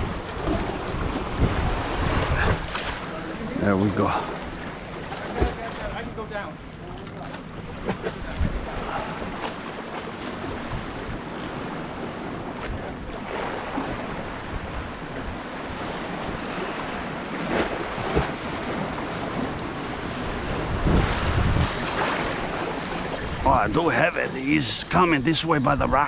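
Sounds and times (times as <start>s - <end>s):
wind buffeting microphone: 0.0s - 3.6s, 4.3s - 23.8s
waves and surf washing: 0.0s - 26.0s.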